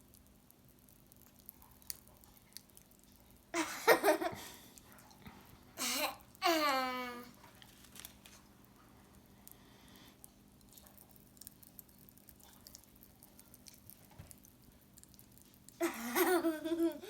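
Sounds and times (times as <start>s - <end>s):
popping candy crackling in mouth: 0.0s - 17.0s.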